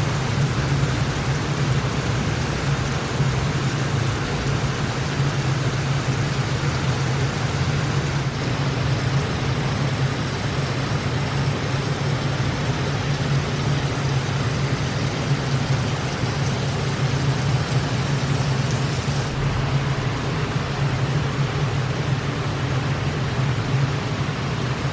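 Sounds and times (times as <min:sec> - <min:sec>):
constant low hum: 0:00.0 - 0:24.9
water fountain rushing: 0:00.0 - 0:24.9.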